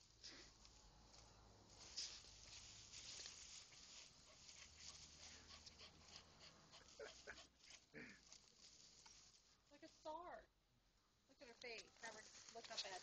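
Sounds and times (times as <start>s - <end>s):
dry palm fronds rustling: 0.0s - 5.8s, 6.8s - 10.2s, 11.6s - 13.0s.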